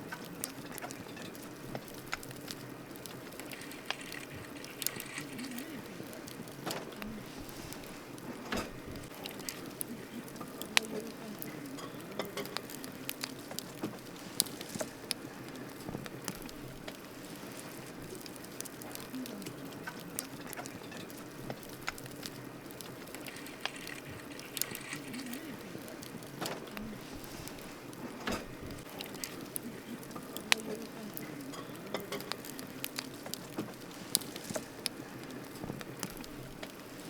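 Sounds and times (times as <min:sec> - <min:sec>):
campfire crackling and popping: 0:00.0 - 0:37.0
low steady hiss: 0:00.0 - 0:37.0.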